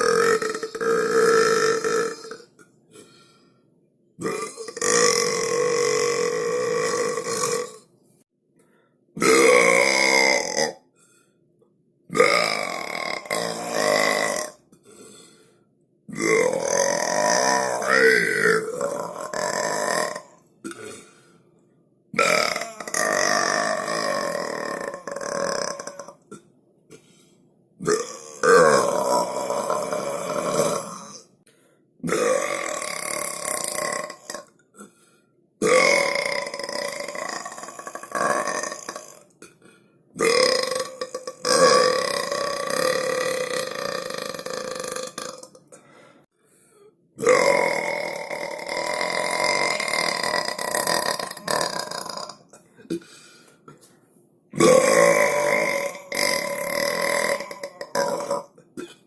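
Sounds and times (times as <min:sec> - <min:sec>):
long human belches: 0:00.0 - 0:02.7, 0:04.2 - 0:07.9, 0:09.2 - 0:10.9, 0:12.1 - 0:15.0, 0:16.1 - 0:21.2, 0:22.1 - 0:27.0, 0:27.8 - 0:31.3, 0:32.0 - 0:35.0, 0:35.6 - 0:46.0, 0:47.2 - 0:53.1, 0:54.6 - 0:59.0.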